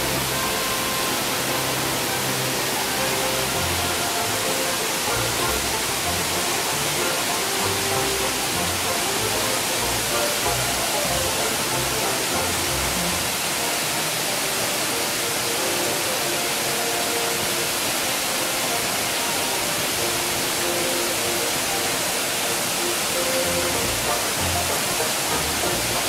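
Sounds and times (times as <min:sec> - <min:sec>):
faint music: 0:00.0 - 0:26.0
waterfall rushing onto rock: 0:00.0 - 0:26.0.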